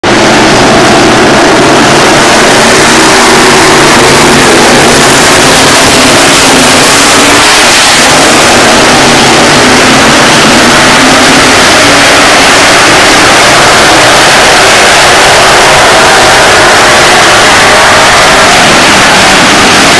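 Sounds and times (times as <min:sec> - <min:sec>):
race car engines roaring: 0:00.0 - 0:19.9.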